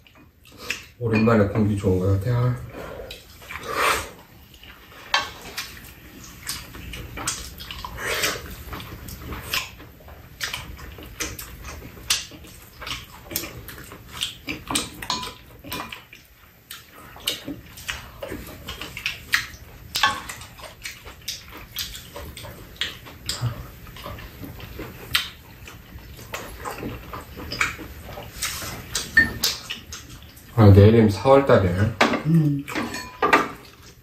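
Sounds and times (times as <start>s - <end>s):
people chewing and smacking: 0.0s - 34.0s.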